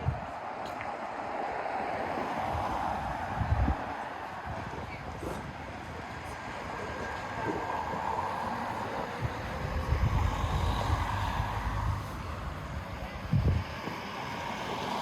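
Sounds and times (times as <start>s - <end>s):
wind buffeting microphone: 0.0s - 0.8s, 2.1s - 15.0s
traffic passing: 0.0s - 15.0s.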